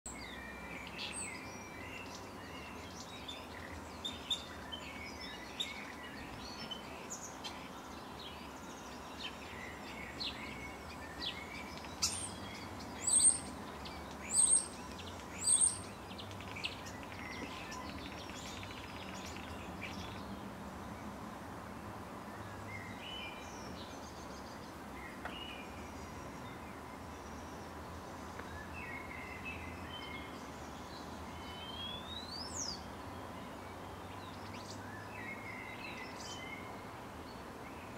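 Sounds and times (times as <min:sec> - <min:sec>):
small birds chirping: 0:00.1 - 0:21.2, 0:22.2 - 0:37.9
background hiss: 0:00.1 - 0:37.9.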